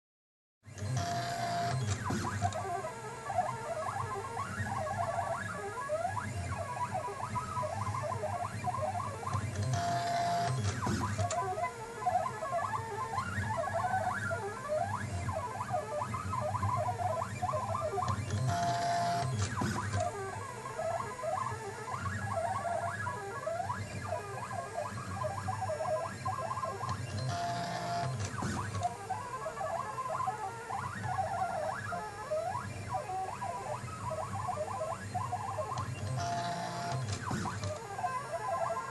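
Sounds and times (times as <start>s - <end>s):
stepper motors chirping whines: 0.8s - 38.9s.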